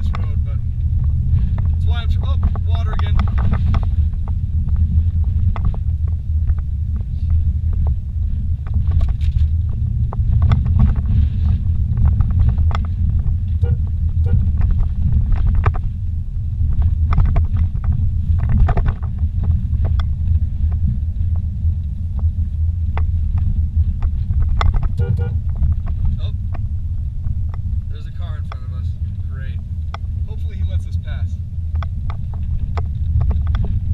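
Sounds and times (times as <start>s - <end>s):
knocks and rattles: 0.0s - 33.9s
vehicle rumble from inside cabin: 0.0s - 33.9s.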